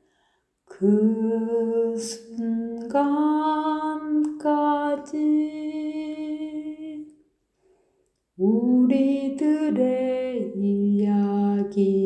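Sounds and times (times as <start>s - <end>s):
person singing unaccompanied: 0.7s - 7.1s, 8.4s - 12.0s.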